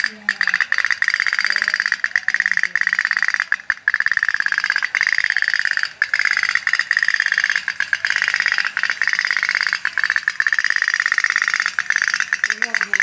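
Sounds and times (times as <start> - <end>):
pop-pop boat ticking rattle: 0.0 - 13.0.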